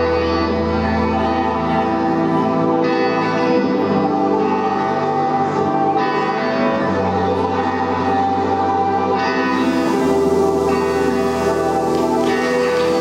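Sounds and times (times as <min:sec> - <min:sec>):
music with sustained layered chords: 0:00.0 - 0:13.0.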